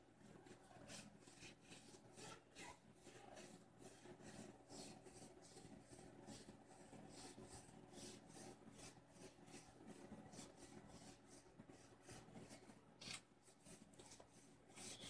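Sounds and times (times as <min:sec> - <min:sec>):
rubbing and rustling handling: 0:00.0 - 0:15.0.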